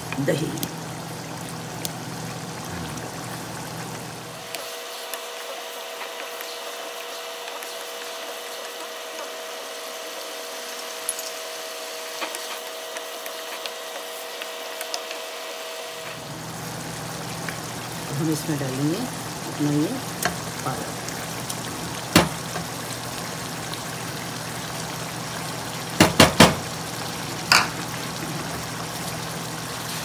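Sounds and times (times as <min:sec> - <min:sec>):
curry sizzling and bubbling in a wok: 0:00.0 - 0:30.0.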